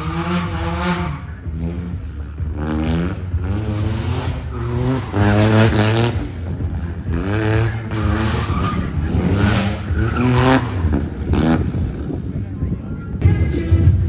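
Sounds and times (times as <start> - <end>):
car engine revving hard: 0.0 - 12.2.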